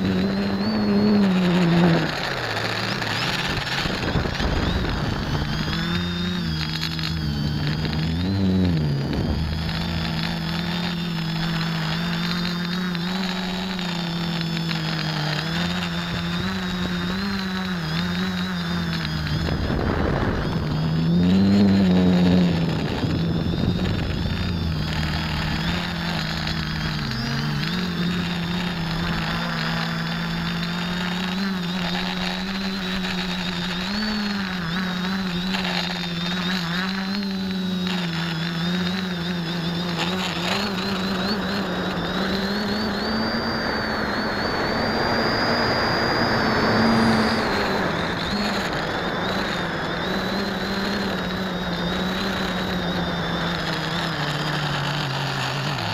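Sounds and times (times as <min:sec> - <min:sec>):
quadcopter motors buzzing: 0:00.0 - 0:55.9.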